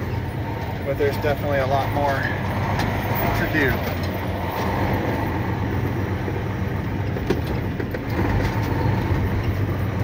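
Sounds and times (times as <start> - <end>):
knocks and rattles over bumps: 0.0 - 10.0
truck engine drone: 0.0 - 10.0.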